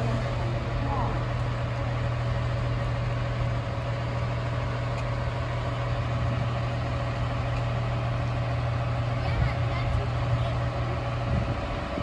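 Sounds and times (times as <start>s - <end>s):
train idling drone: 0.0s - 12.0s.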